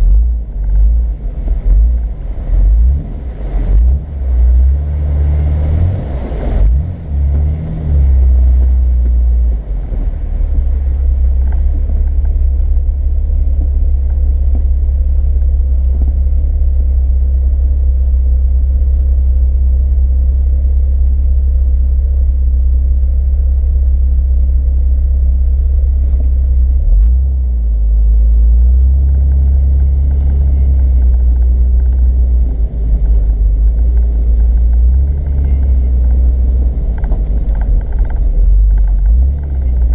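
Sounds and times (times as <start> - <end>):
off-road vehicle engine rumble: 0.0 - 39.9.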